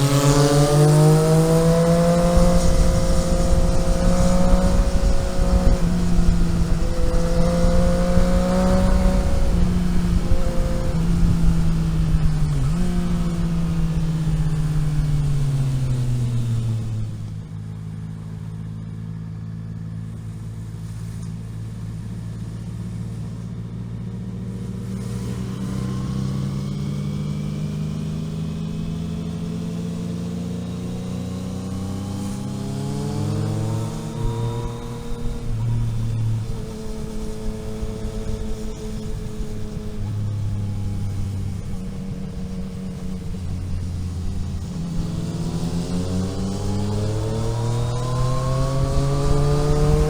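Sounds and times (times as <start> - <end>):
vehicle engine revving: 0.0 - 50.0.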